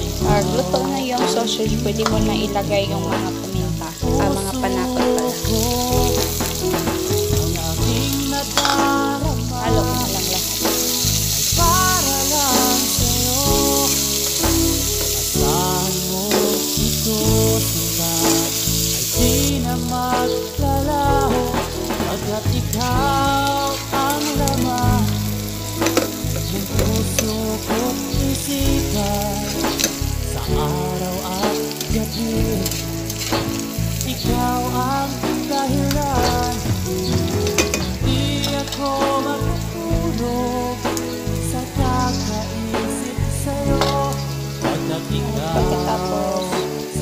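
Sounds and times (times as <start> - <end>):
background music with singing: 0.0 - 47.0
sausage sizzling in frying pan: 0.0 - 47.0.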